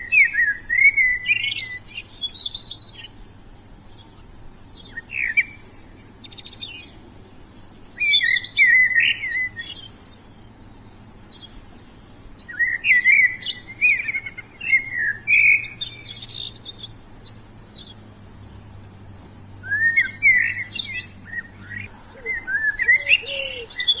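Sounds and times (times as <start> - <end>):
songbirds chirping and warbling: 0.0 - 24.0.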